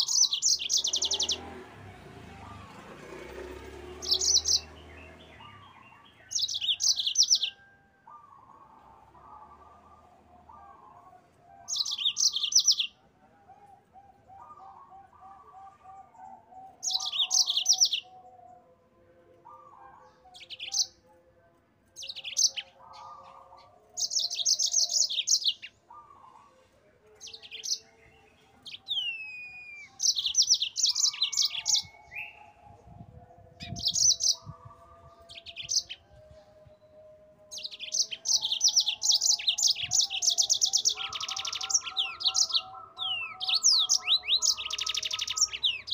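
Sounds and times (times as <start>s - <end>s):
canary trilling song: 0.0s - 45.9s.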